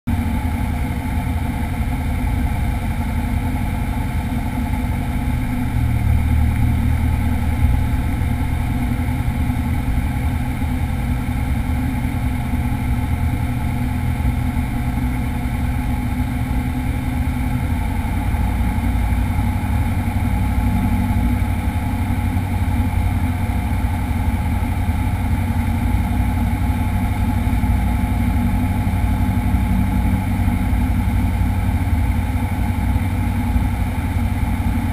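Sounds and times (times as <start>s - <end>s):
light aircraft engine and propeller: 0.1s - 34.9s.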